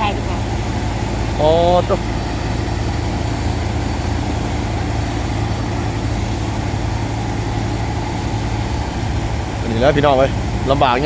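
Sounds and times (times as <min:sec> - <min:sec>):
vehicle engine running steadily: 0:00.0 - 0:11.0.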